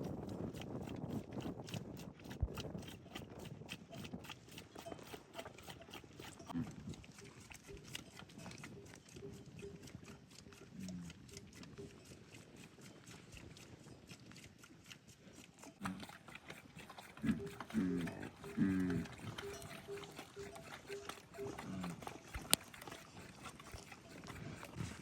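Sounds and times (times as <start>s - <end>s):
livestock clicks and scuffs: 0.0s - 25.0s.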